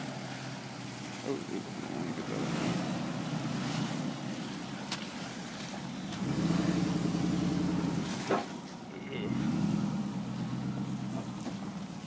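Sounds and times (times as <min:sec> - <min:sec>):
pickup truck engine pulling: 0:00.0 - 0:12.0.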